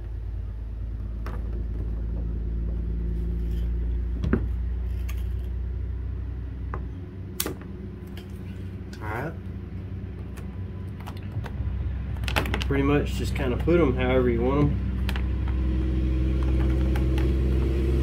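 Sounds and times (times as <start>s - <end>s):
low motor hum: 0.0s - 18.0s.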